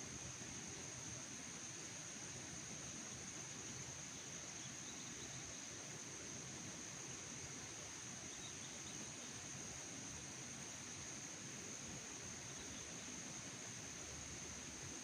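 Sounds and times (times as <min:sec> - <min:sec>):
background hiss: 0:00.0 - 0:15.0
insects chirring: 0:00.0 - 0:15.0.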